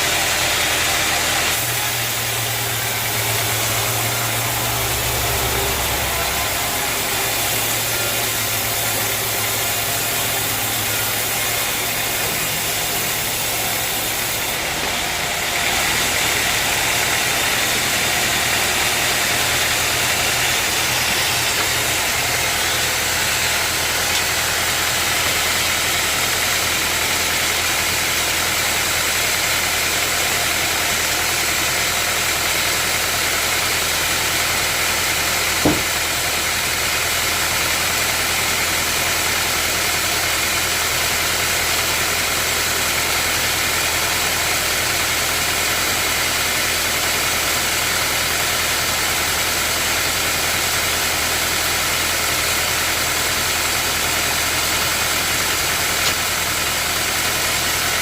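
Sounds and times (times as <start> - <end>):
sawmill machinery droning: 0.0 - 58.0.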